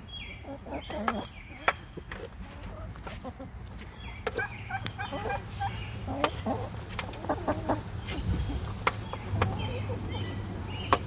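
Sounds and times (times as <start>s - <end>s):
hens clucking: 0.2s - 11.0s.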